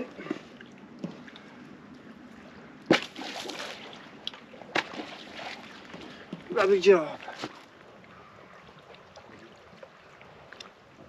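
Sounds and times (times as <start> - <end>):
seawater splashing and sloshing: 0.0 - 11.0.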